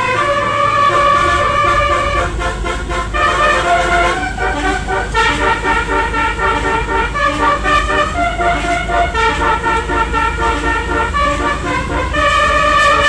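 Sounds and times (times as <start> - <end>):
low steady rumble: 0.0 - 13.0
multi-tone horn playing stepped notes: 0.0 - 13.0.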